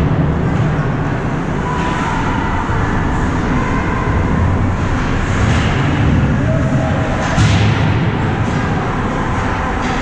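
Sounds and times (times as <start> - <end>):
ice rink rumbling: 0.0 - 10.0.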